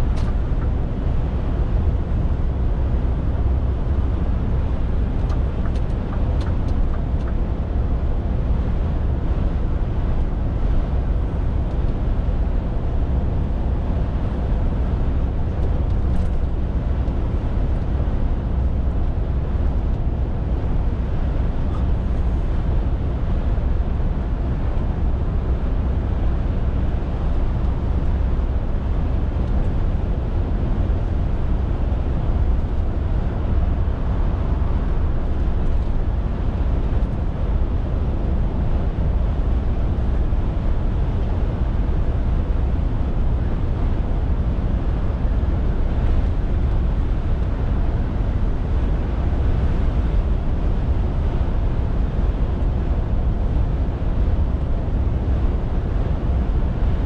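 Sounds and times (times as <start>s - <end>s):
lorry diesel engine drone: 0.0s - 57.0s.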